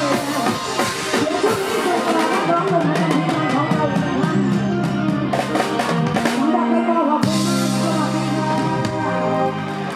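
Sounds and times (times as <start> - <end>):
live band with drums and bass: 0.0 - 9.9.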